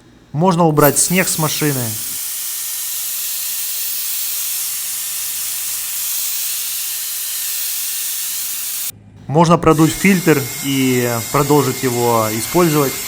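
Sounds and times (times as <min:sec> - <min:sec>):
mini blower rushing hiss: 0:00.8 - 0:08.9, 0:09.8 - 0:13.0.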